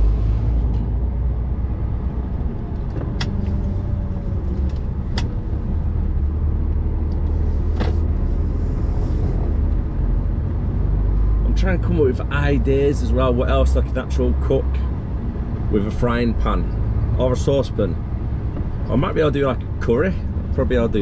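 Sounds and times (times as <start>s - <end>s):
lorry diesel engine rumble: 0.0s - 21.0s
road noise: 0.0s - 21.0s.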